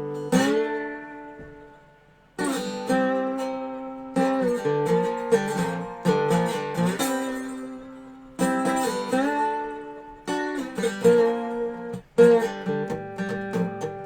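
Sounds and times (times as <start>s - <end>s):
slide guitar chords: 0.0s - 14.0s.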